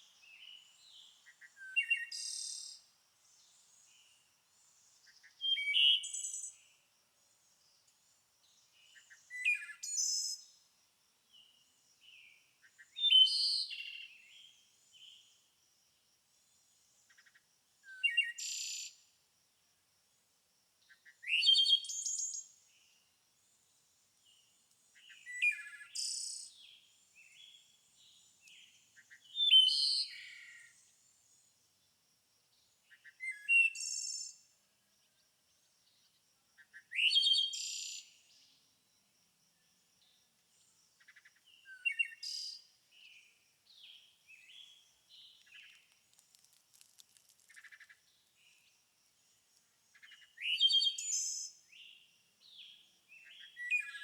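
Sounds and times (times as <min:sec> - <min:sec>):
songbird singing: 0:00.0 - 0:15.6, 0:16.3 - 0:19.2, 0:20.8 - 0:54.0.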